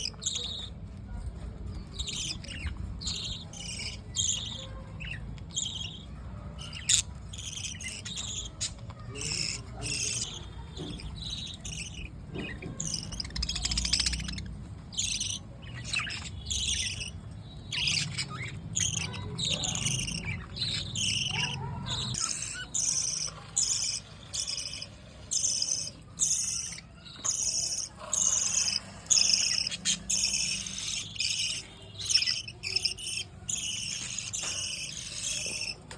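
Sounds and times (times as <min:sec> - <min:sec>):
budgerigars chattering: 0:00.0 - 0:00.8, 0:01.7 - 0:35.9
low background hum: 0:00.0 - 0:35.9.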